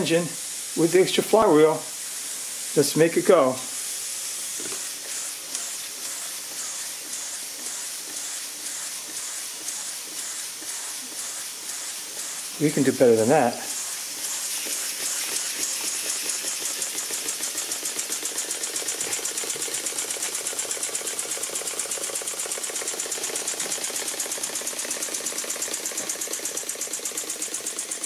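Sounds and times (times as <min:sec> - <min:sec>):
steady steam hiss: 0:00.0 - 0:28.0
steam engine chuffing: 0:00.0 - 0:28.0.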